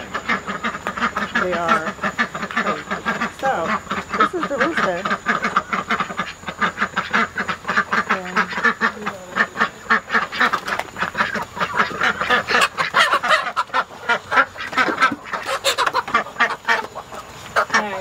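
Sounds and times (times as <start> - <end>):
ducks quacking rapidly: 0.0 - 18.0.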